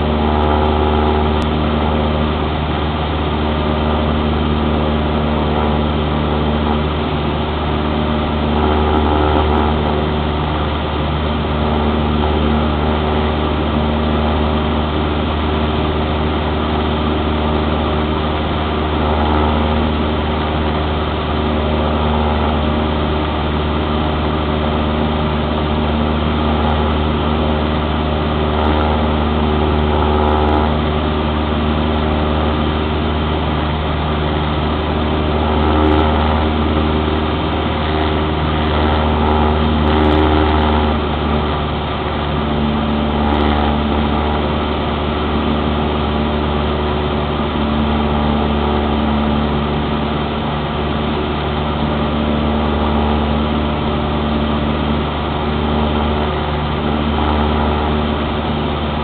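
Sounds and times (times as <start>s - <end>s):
airplane engine droning in cabin: 0.0s - 59.0s.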